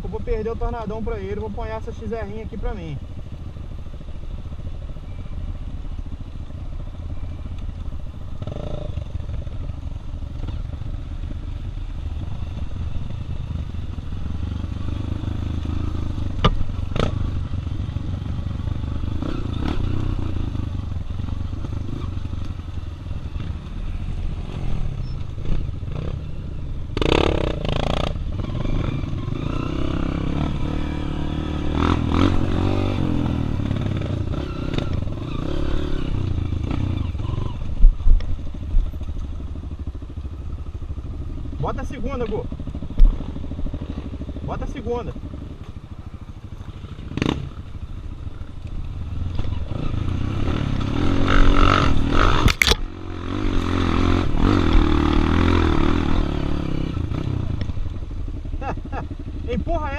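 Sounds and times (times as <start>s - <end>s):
motorcycle engines under throttle: 0.0s - 59.9s.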